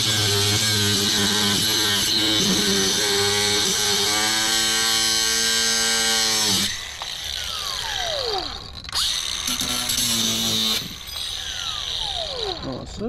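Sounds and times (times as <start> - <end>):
angle grinder cutting metal: 0.0 - 13.0
grinder wheel spinning down: 0.0 - 13.0.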